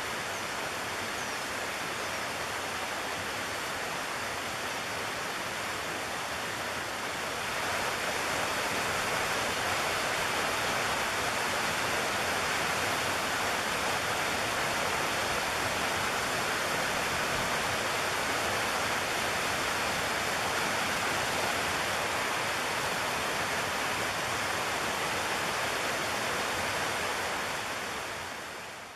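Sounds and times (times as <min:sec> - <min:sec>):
river water rushing over stones: 0:00.0 - 0:28.9.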